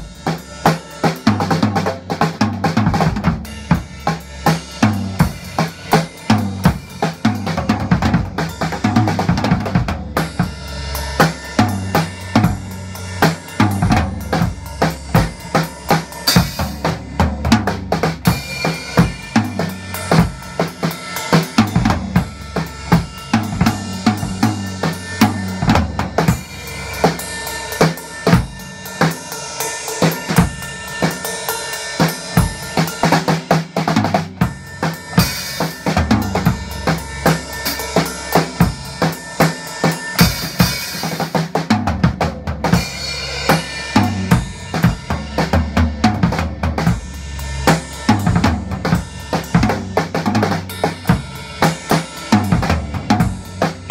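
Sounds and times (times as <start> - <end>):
drum kit beat: 0.0 - 53.9
cymbal crashes: 3.0 - 41.6, 42.7 - 53.9.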